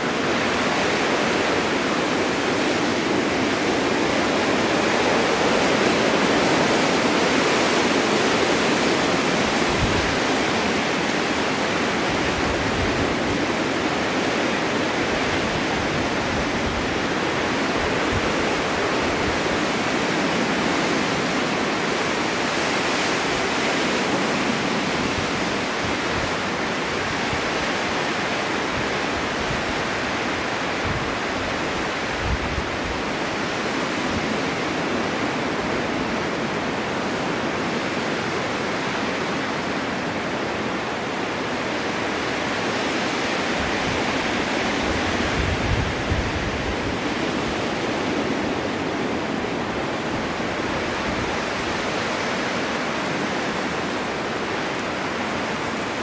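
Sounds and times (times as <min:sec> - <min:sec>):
low rumbling wind gusts: 0:00.0 - 0:56.0
snowstorm wind blowing: 0:00.0 - 0:56.0.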